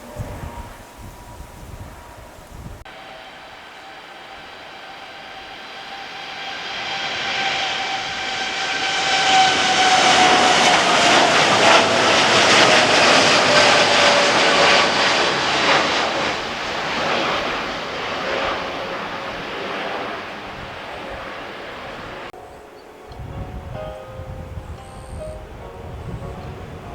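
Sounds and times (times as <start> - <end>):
jet engine whine sliding down: 0.0 - 26.9
jet engines passing: 0.0 - 26.9.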